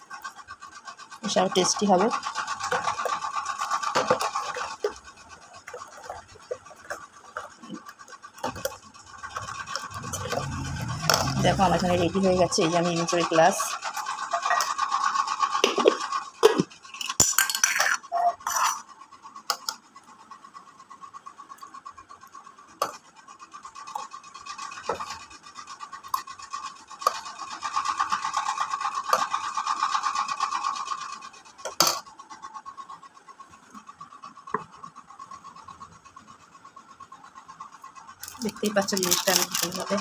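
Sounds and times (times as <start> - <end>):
ceiling fan buzzing hum: 0.0 - 40.0.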